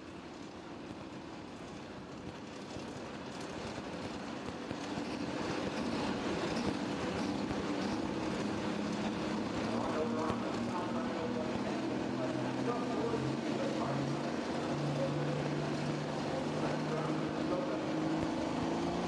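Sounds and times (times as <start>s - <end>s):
tractor diesel engine under load: 2.5s - 19.0s.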